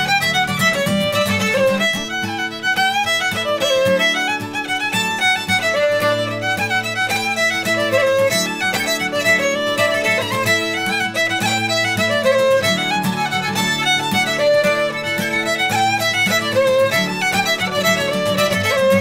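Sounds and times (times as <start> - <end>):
fiddle playing folk tune: 0.0 - 19.0
strummed acoustic guitar chords: 0.0 - 19.0.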